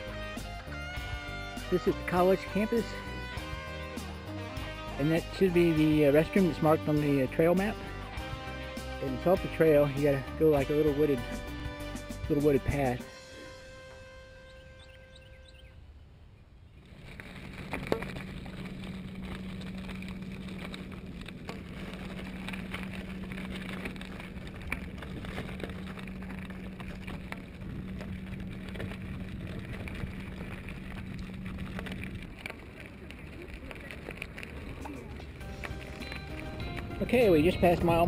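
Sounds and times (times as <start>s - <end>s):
tyres crackling on gravel: 0.0s - 15.6s, 16.6s - 38.0s
low hum: 0.0s - 38.0s.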